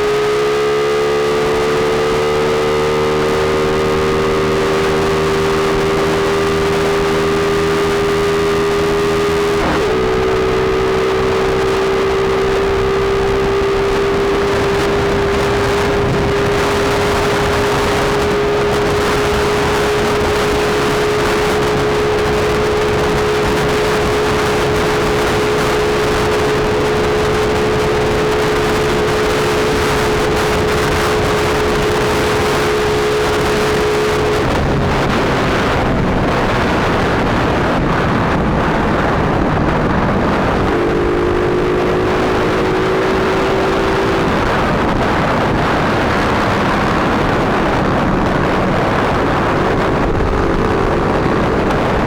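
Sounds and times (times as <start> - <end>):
motorcycle engine at high speed: 0.0 - 52.0
wind rush on microphone: 0.0 - 52.0.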